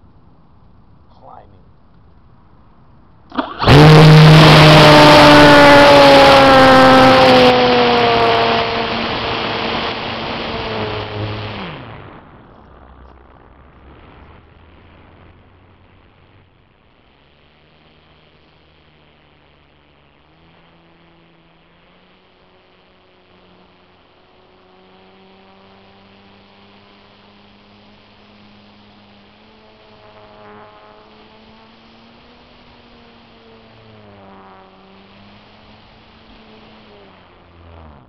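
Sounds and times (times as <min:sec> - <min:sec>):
electric motor whining hum: 0:03.3 - 0:38.0.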